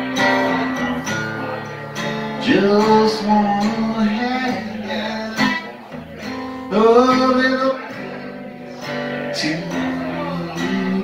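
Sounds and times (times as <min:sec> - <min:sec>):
acoustic guitar strumming: 0:00.0 - 0:11.0
man singing: 0:01.5 - 0:11.0.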